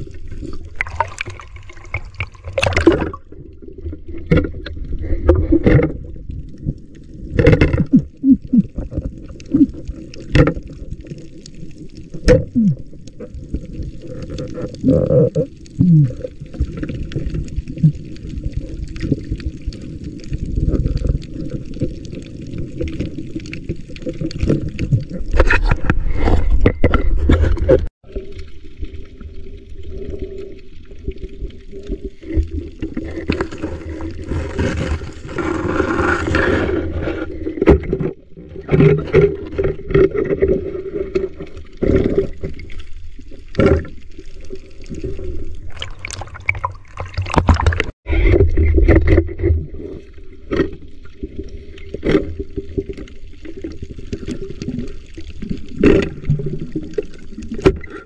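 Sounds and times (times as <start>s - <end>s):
underwater rumble and gurgle: 0.0s - 58.0s.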